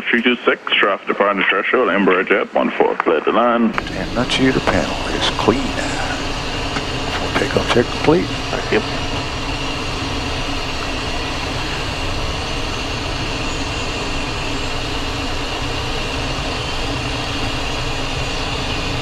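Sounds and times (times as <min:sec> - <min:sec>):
jet engines running with high whine: 0:00.0 - 0:19.0.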